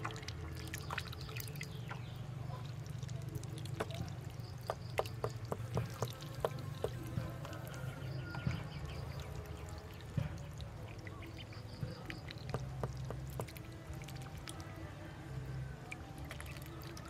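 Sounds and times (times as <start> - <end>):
water splashing and dripping: 0.0 - 15.1, 15.8 - 17.0.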